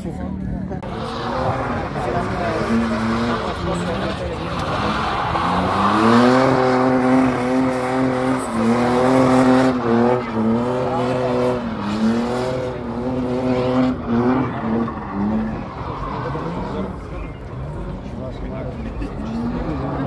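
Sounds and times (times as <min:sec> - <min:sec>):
car engine at high revs: 0:00.6 - 0:20.0
tyres sliding on tarmac: 0:00.8 - 0:20.0.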